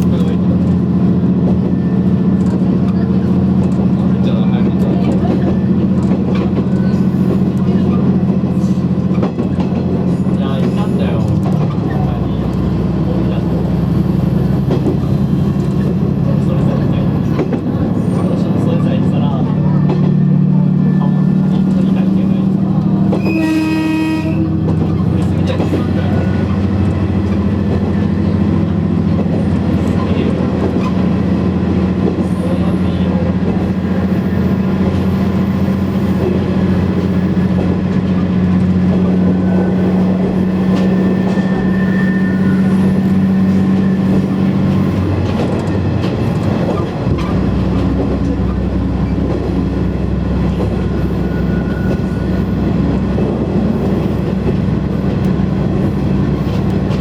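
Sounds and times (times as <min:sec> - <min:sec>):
railcar engine drone: 0:00.0 - 0:57.0.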